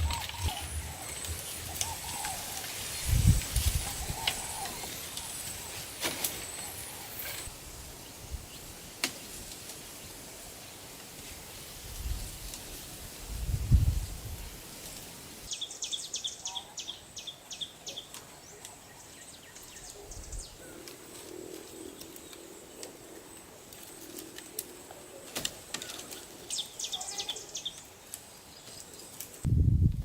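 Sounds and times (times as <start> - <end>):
songbird chirping: 0.0 - 10.2, 14.1 - 29.4
faint outdoor background noise: 0.0 - 30.0.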